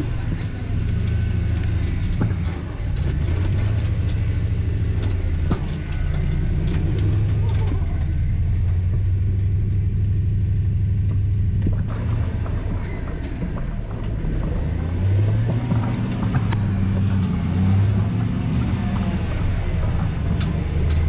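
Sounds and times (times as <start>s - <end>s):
buggy engine at low revs: 0.0s - 21.0s.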